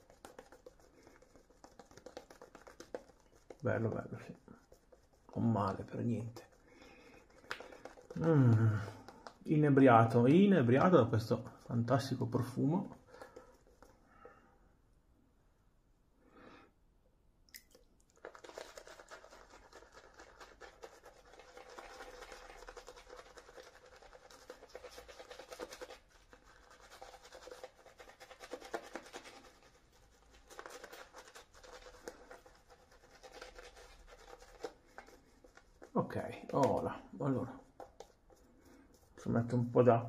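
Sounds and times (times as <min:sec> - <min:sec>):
shaving brush rustling on skin: 0:00.0 - 0:14.0, 0:18.2 - 0:39.8.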